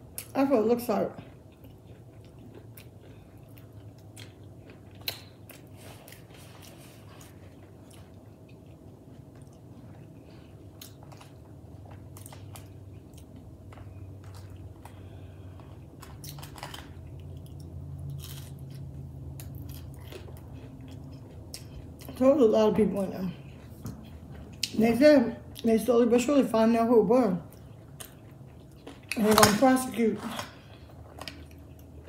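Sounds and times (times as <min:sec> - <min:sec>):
low steady hum: 0:00.0 - 0:32.0
chewing burger: 0:01.1 - 0:25.8, 0:27.4 - 0:29.6, 0:30.2 - 0:32.0.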